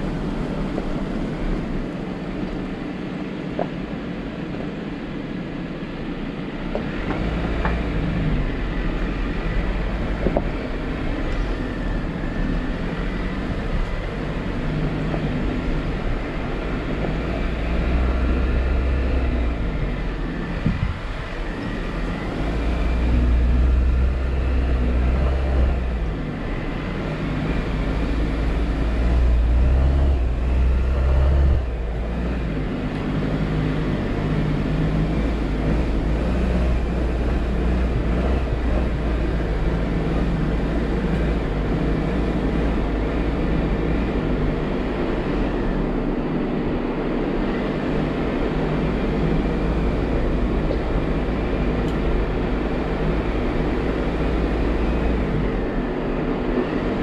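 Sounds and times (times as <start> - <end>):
car engine rumbling: 0.0 - 57.0.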